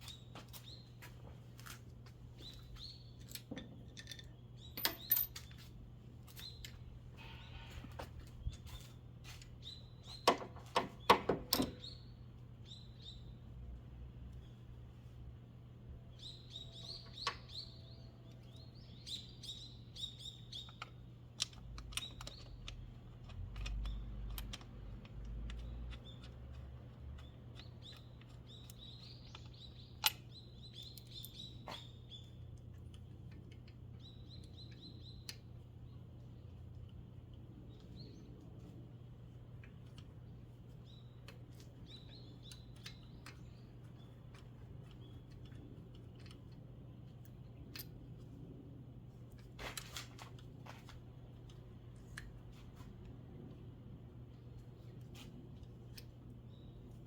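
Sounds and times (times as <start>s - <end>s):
small birds chirping: 0.0s - 1.5s, 2.3s - 5.3s, 6.3s - 15.2s, 16.0s - 47.6s, 54.3s - 57.0s.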